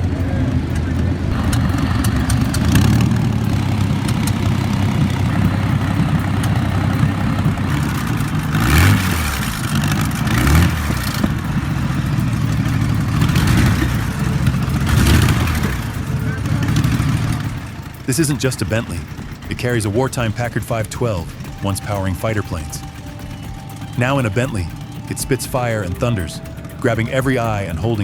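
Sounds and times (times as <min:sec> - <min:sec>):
piston aero engine running: 0:00.0 - 0:28.0
throttle blips: 0:00.0 - 0:28.0.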